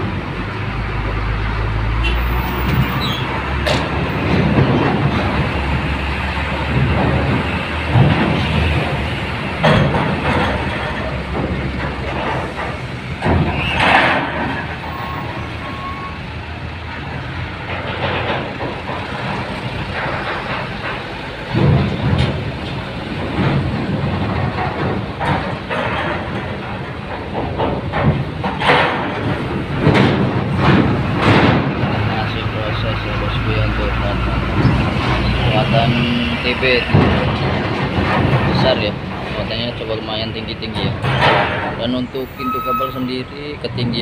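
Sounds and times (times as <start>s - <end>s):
truck diesel engines rumbling: 0.0s - 44.0s
clanks on steel ramp: 2.0s - 16.2s, 16.9s - 43.1s.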